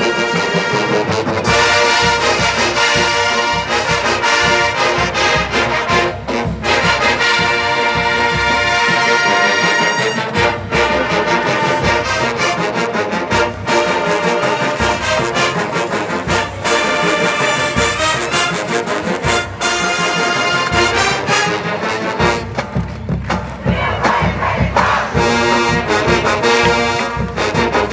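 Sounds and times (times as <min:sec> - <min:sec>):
marching band brass: 0:00.0 - 0:27.9
percussion beat: 0:00.0 - 0:27.9.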